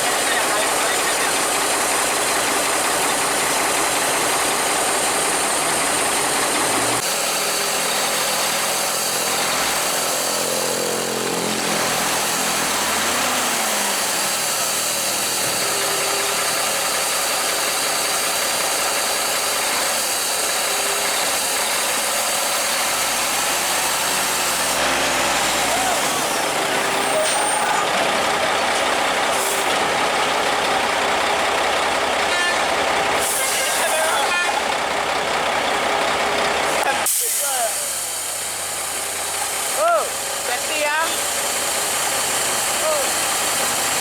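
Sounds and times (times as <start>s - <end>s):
heavy vehicle engine running: 0.0s - 44.0s.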